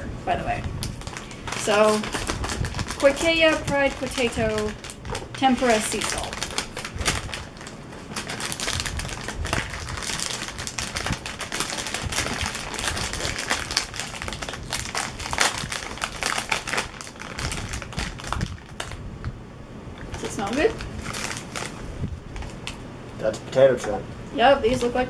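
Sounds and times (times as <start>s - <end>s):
foil bag crinkling: 0.4s - 19.1s, 20.0s - 22.8s.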